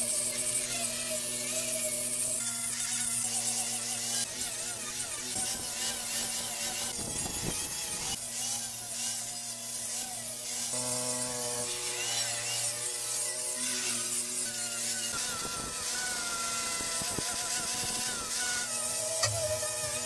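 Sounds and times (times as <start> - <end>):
tool rasping on wood: 0.0 - 20.0.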